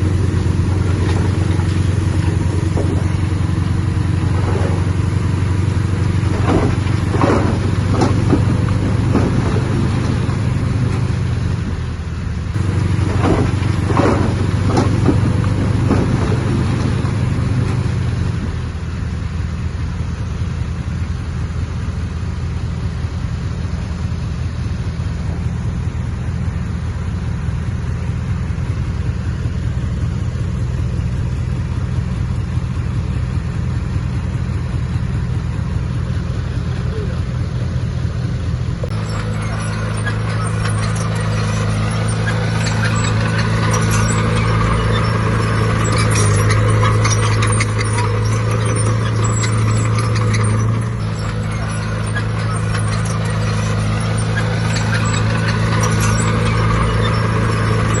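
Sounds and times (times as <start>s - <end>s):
clanking rattle: 0.0s - 19.0s, 25.2s - 58.0s
diesel earthmoving machine running: 0.0s - 58.0s.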